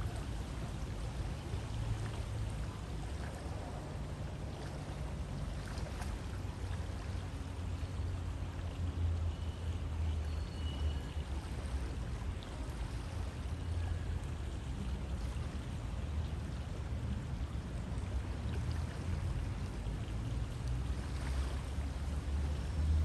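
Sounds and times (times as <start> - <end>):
river water rushing and gurgling: 0.0 - 23.0.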